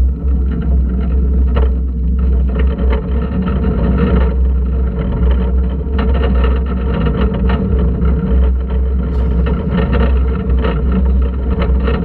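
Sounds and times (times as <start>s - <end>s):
roller coaster track clacks: 0.0s - 12.0s
roller coaster wheels rumbling: 0.0s - 12.0s.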